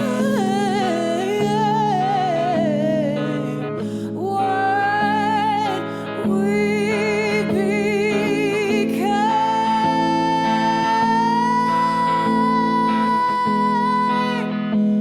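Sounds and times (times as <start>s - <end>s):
guitar accompaniment: 0.0s - 15.0s
woman singing with vibrato: 0.0s - 15.0s.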